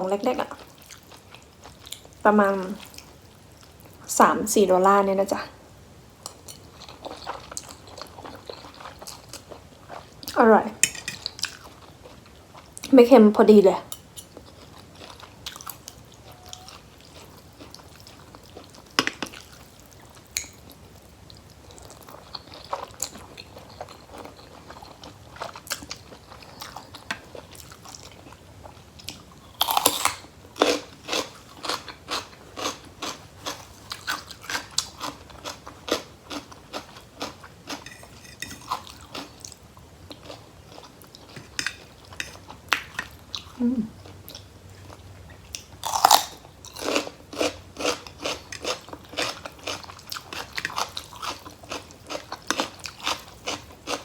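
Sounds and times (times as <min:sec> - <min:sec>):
person chewing and crunching food: 0:06.3 - 0:12.8, 0:14.2 - 0:54.0.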